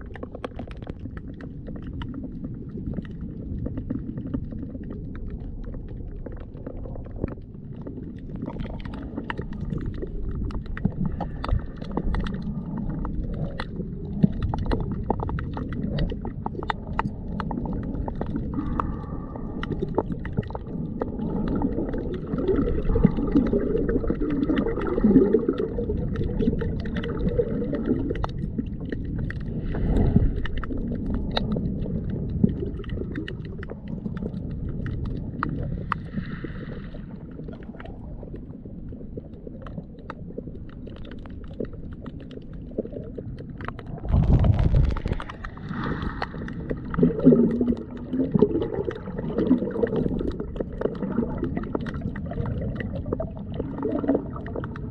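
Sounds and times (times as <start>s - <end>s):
small underwater clicks and crackles: 0.0s - 54.9s
underwater sloshing rumble: 0.0s - 54.9s.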